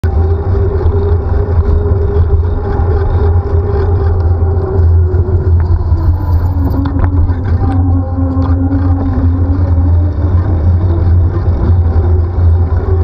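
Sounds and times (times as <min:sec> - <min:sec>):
low wind rumble: 0:00.0 - 0:13.0
vehicle engine running: 0:00.0 - 0:13.0.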